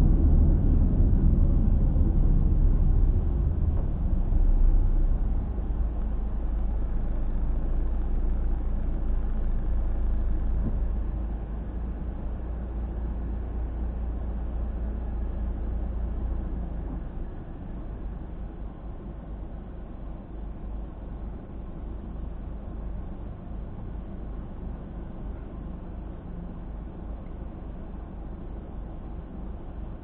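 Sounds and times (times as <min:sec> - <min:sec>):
car driving rumble inside cabin: 0:00.0 - 0:30.0.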